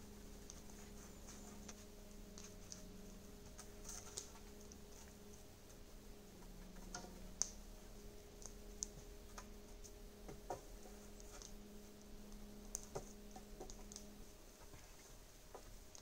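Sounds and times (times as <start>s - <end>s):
low buzz: 0.0s - 16.0s.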